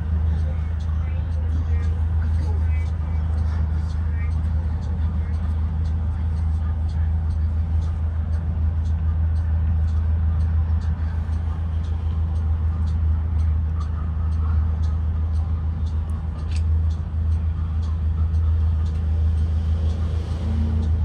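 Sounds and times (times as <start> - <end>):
bus engine and road drone: 0.0 - 21.0
faint light ticks: 0.1 - 21.0.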